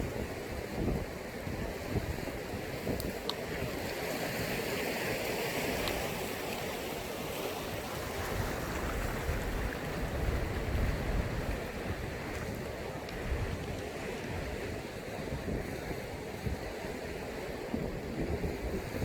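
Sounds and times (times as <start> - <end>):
sea waves on shore: 0.0 - 19.0
waves breaking with low rumble: 0.0 - 19.0.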